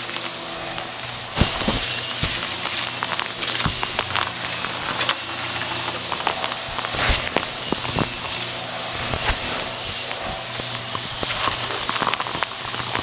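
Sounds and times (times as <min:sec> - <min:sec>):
vacuum cleaner motor hum: 0:00.0 - 0:13.0
debris crunching in vacuum: 0:00.2 - 0:13.0.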